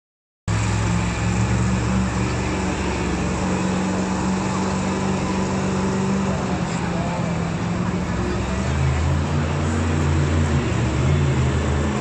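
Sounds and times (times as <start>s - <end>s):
monster truck engines idling: 0.5s - 12.0s
truck driving off on dirt: 0.5s - 12.0s.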